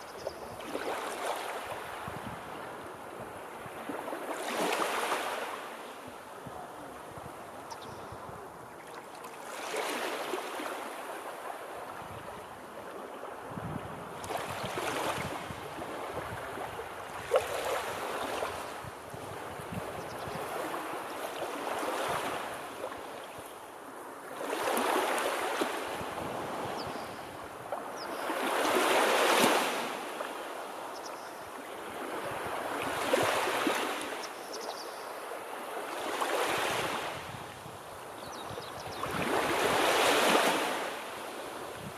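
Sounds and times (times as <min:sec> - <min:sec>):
small waves breaking: 0:00.0 - 0:34.6, 0:35.2 - 0:41.9.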